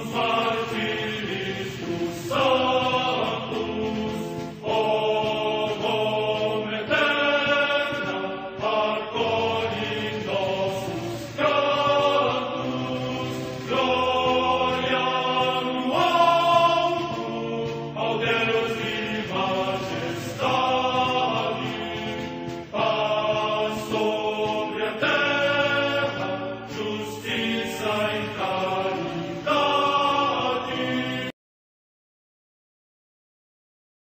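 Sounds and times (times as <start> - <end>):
choral chant singing: 0.0 - 31.4.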